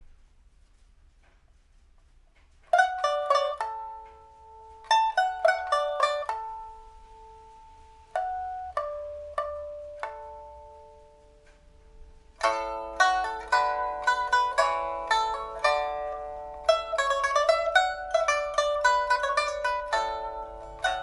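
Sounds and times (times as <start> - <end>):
pipa plucked notes: 2.7 - 21.0.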